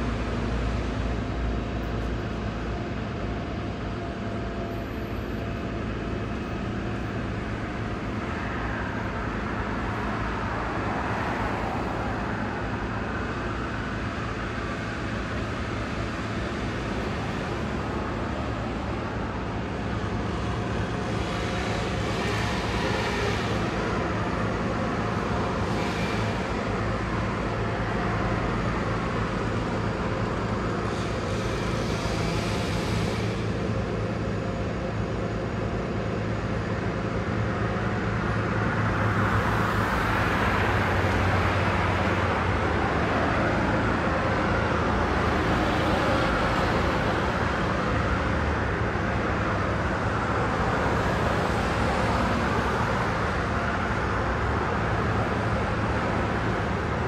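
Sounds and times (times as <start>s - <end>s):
passing road traffic: 0.0s - 57.0s
truck engines humming: 0.0s - 57.0s.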